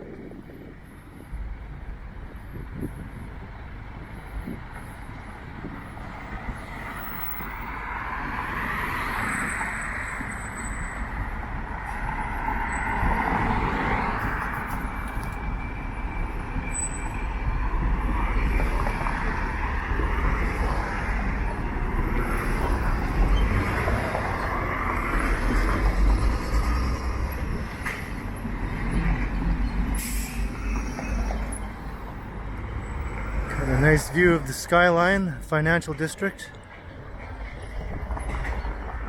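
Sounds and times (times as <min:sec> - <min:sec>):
rumble of passing traffic: 0:00.0 - 0:39.0.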